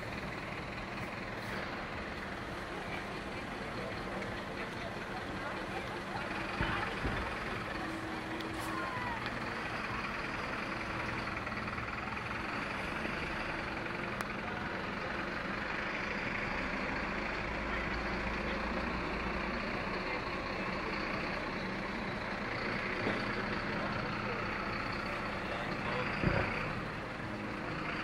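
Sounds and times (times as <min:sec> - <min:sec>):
diesel truck engines rumbling: 0:00.0 - 0:28.0.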